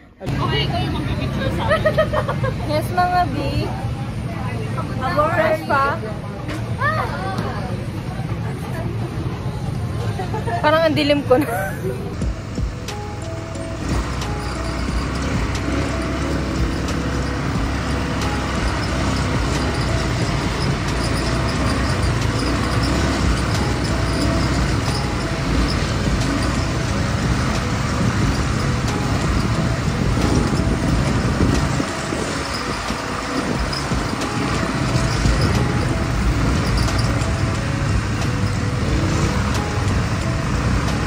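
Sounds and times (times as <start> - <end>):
atv engines running: 0.0 - 41.0.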